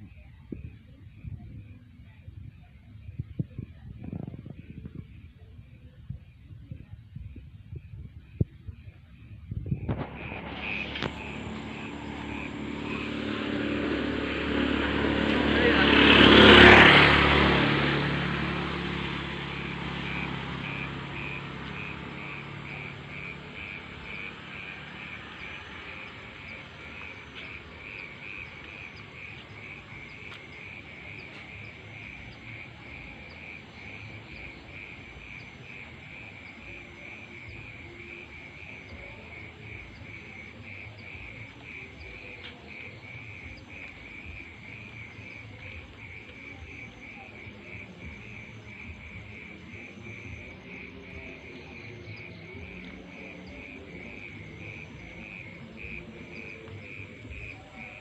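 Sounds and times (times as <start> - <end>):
cricket chirping: 0.0 - 58.0
vehicle passing: 9.7 - 58.0.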